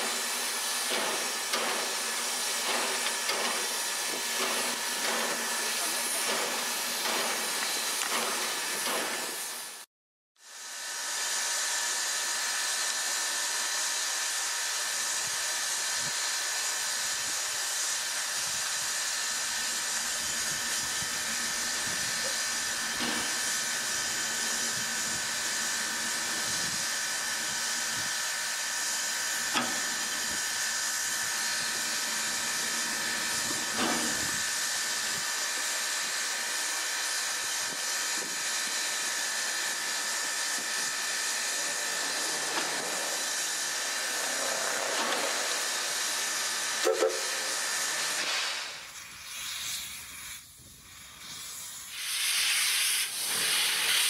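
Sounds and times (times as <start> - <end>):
steam locomotive hissing: 0.0 - 9.8, 11.2 - 54.0.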